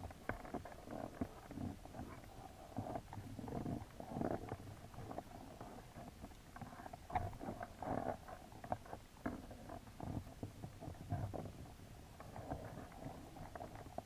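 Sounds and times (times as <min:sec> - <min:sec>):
muffled underwater rumbling: 0:00.0 - 0:14.0.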